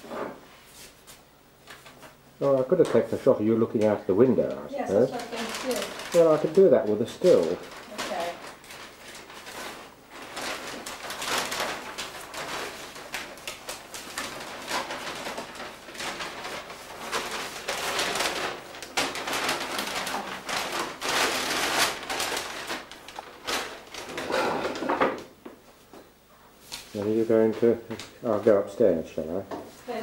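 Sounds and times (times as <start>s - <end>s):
tablecloth rustling: 0.0s - 2.2s, 4.7s - 28.1s.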